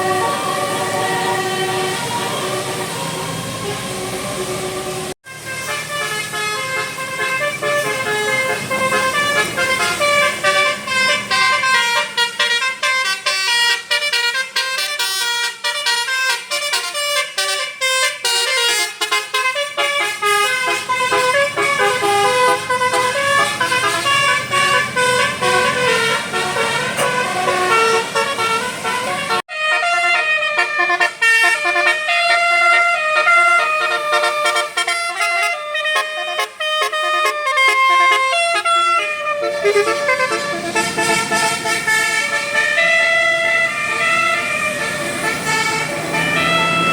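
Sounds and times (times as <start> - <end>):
musical air horn tune: 0.0 - 46.9.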